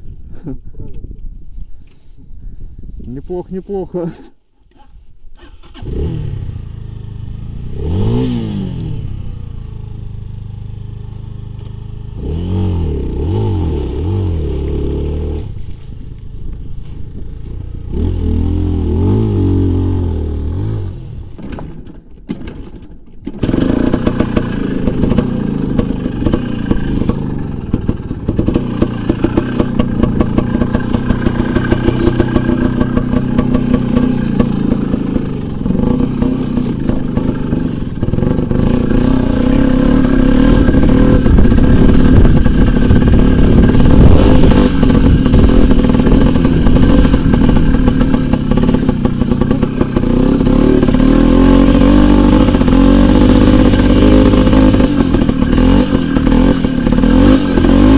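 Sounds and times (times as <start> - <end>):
motorcycle engine revving: 4.7 - 22.0, 23.2 - 57.9.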